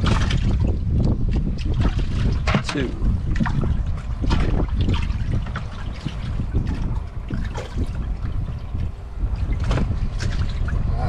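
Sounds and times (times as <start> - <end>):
low rumble: 0.0 - 11.0
water splashing and dribbling: 0.0 - 11.0.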